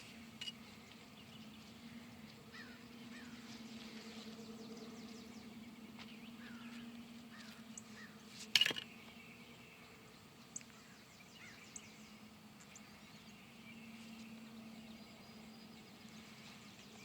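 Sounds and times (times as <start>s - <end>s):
birds chirping: 0.0s - 17.0s
low hum: 0.0s - 17.0s.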